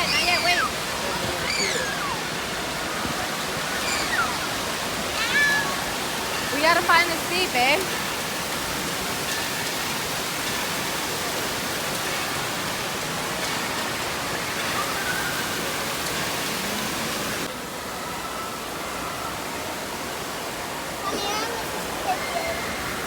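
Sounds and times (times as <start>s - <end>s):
water spraying and falling in hall: 0.0s - 23.0s.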